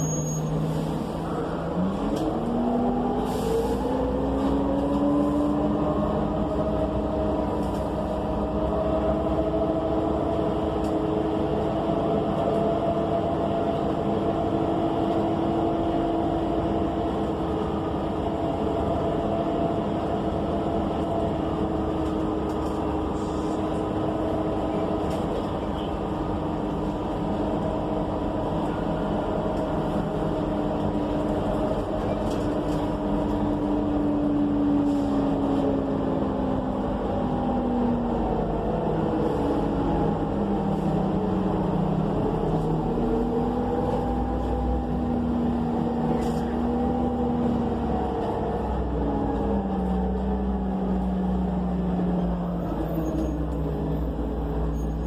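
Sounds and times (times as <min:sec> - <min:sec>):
bus engine rumbling: 0:00.0 - 0:55.0.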